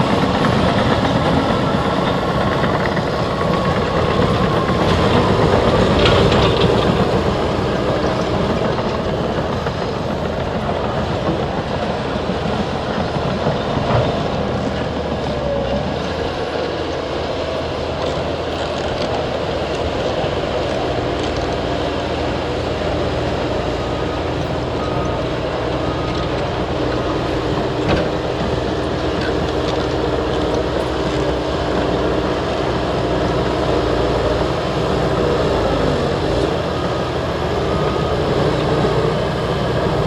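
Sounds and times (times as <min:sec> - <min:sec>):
diesel engines running: 0:00.0 - 0:40.0
steel tracks clanking: 0:00.0 - 0:40.0.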